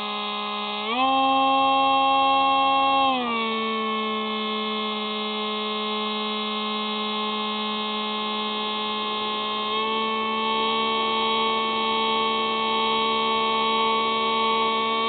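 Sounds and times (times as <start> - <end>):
electric motor and propeller whining: 0.0 - 15.0.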